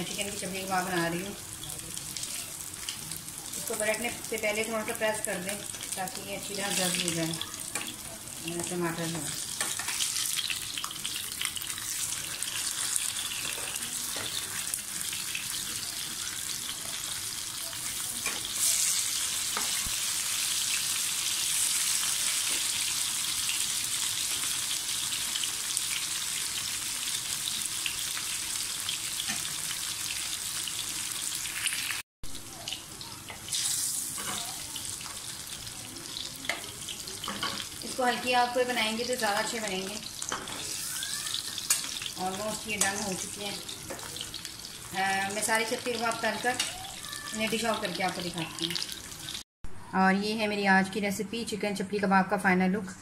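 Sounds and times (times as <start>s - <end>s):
food frying in hot oil: 0.0s - 49.4s.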